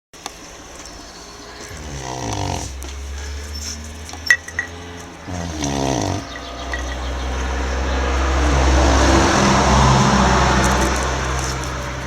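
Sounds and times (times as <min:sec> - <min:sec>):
dog snoring: 0:00.8 - 0:12.0.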